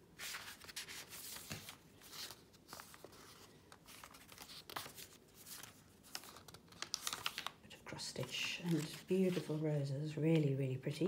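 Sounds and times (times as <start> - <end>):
paper pages turning: 0.2 - 10.6.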